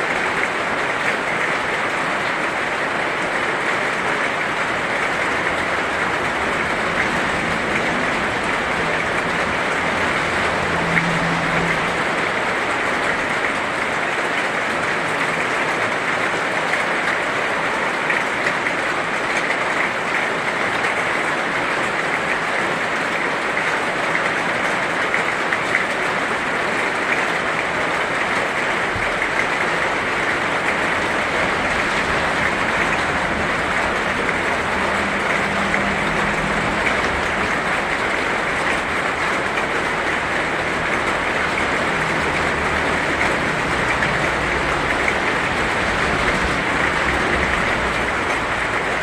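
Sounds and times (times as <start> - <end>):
heavy rain: 0.0 - 49.0.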